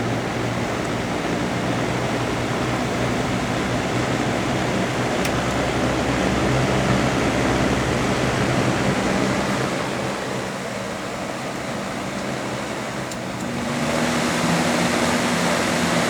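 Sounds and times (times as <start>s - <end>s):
fan air rushing: 0.0s - 16.0s
fan motor hum: 0.0s - 16.0s.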